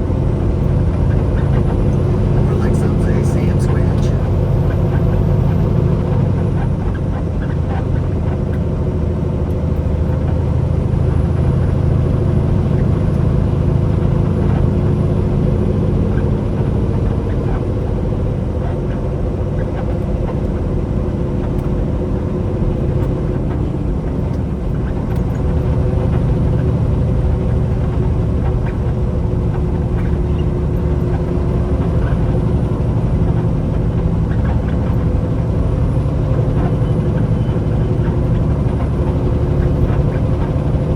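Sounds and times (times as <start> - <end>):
truck diesel engine droning: 0.0 - 40.9.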